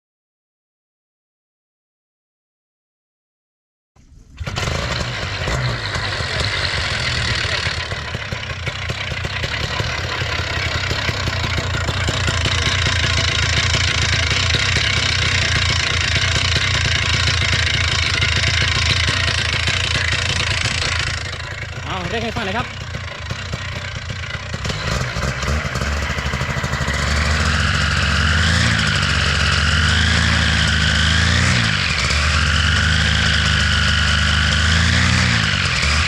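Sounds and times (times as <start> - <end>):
paramotor engine running: 4.3 - 36.0.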